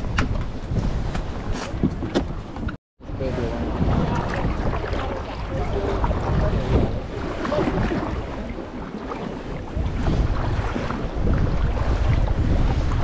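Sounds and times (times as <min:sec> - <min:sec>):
water lapping and splashing: 0:00.0 - 0:13.0
wind buffeting microphone: 0:00.0 - 0:13.0.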